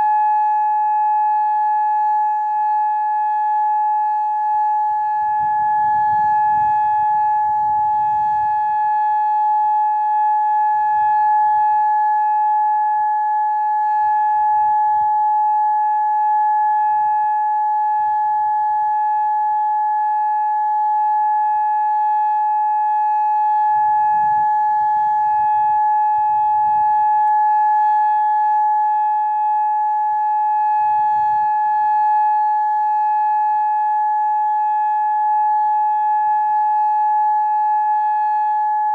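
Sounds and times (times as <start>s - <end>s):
steady electronic warning siren: 0.0s - 38.9s.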